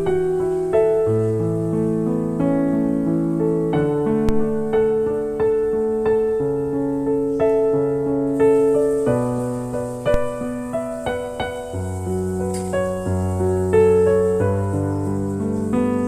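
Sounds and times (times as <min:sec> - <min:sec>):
faint background hiss: 0:00.0 - 0:16.0
slow gentle piano music: 0:00.0 - 0:16.0.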